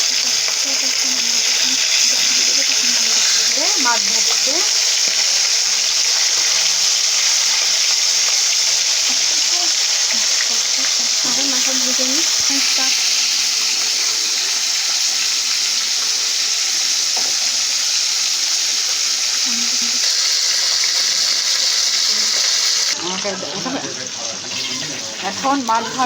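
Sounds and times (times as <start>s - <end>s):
fish frying in hot oil: 0.0s - 26.0s.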